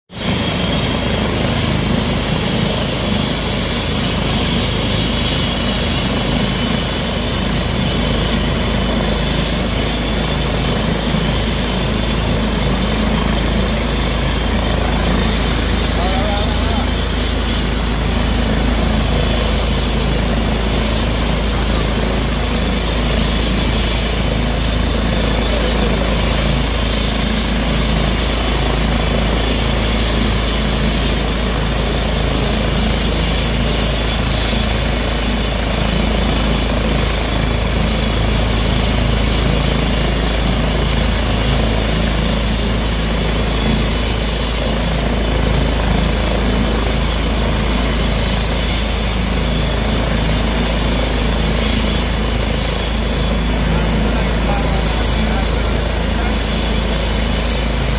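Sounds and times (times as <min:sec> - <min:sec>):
helicopter rotor noise: 0:00.1 - 0:57.9
helicopter turbine whine: 0:00.1 - 0:57.9.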